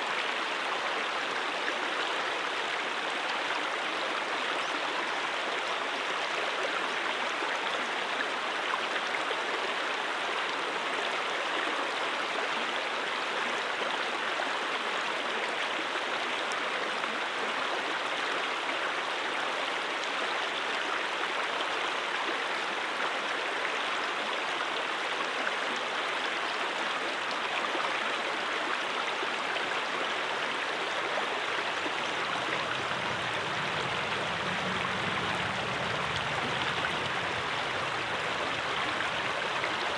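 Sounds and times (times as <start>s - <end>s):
stream water flowing over rocks: 0.0s - 39.9s.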